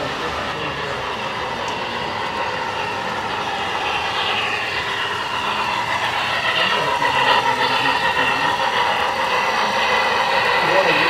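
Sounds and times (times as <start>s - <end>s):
model train rumbling and rattling: 0.0s - 11.0s.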